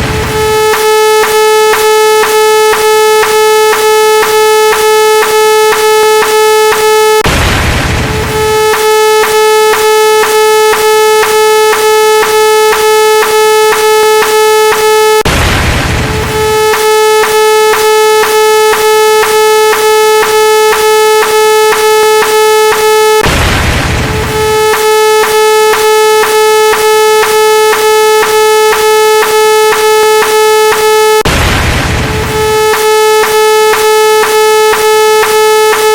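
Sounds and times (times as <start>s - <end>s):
steady electronic buzzing tone: 0.0s - 35.9s
synthetic explosion noise: 0.0s - 35.9s.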